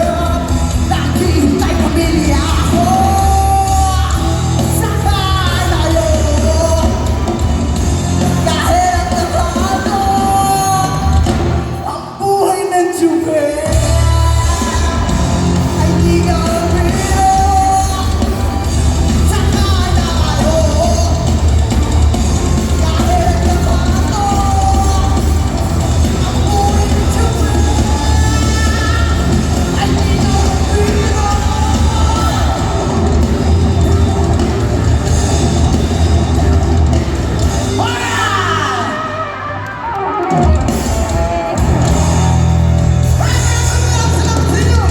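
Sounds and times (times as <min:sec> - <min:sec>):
bass and drums: 0:00.0 - 0:44.9
lead singer singing: 0:00.0 - 0:44.9
live rock band playing: 0:00.0 - 0:44.9.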